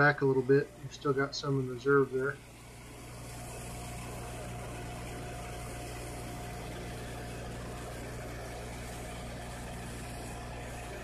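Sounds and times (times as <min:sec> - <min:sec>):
engine humming with whine: 0:00.0 - 0:11.0.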